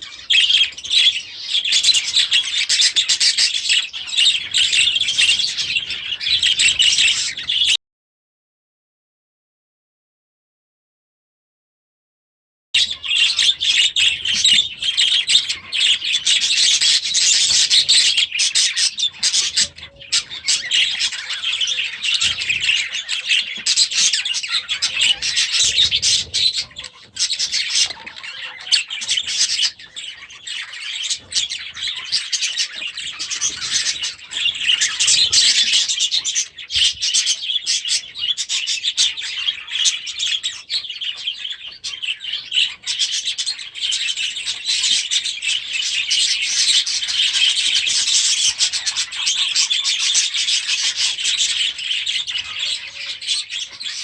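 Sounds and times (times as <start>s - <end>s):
budgerigars chattering: 0.0s - 7.8s, 12.8s - 54.0s.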